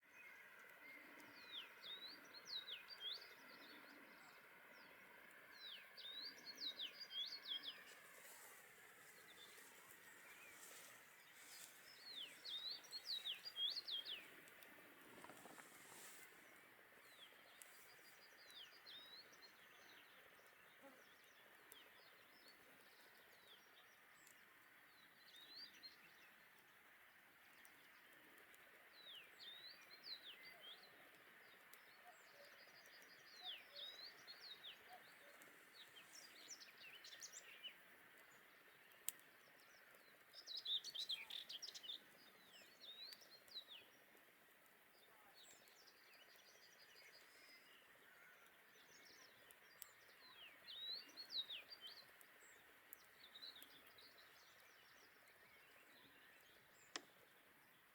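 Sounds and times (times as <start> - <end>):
faint songbirds chirping: 0.0 - 57.9
soft steady hiss: 0.0 - 57.9.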